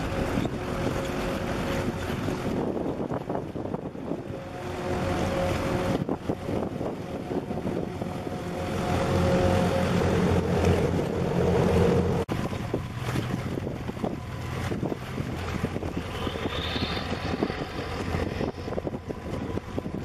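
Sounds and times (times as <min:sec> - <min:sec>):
boat diesel engine droning: 0:00.0 - 0:20.0
wind buffeting microphone: 0:00.0 - 0:20.0.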